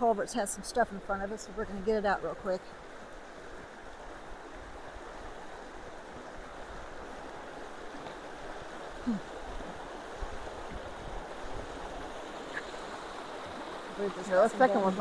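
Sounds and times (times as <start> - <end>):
ditch water rushing: 2.2 - 15.0.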